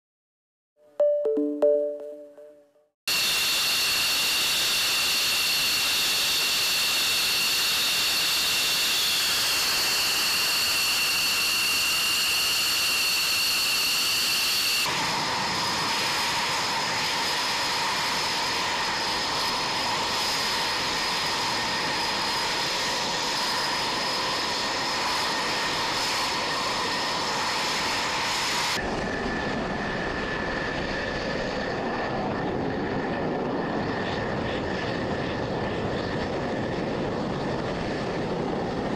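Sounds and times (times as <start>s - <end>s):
jet engines whining at idle: 3.1s - 38.9s.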